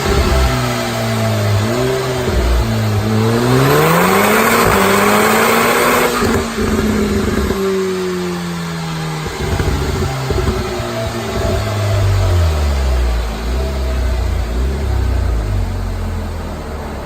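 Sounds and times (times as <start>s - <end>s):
car engine revving on dyno: 0.0s - 17.0s
exhaust pops and crackles: 0.0s - 17.0s.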